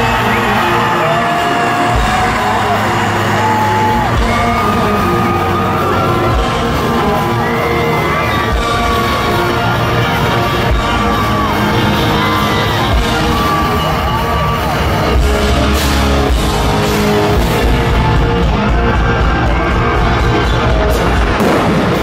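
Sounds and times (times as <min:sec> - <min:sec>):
live rock band: 0:00.0 - 0:22.0.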